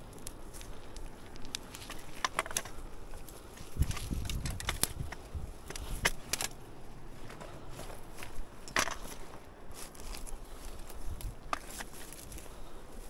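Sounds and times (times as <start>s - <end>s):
footsteps on loose rocks and grass: 0.0s - 13.0s.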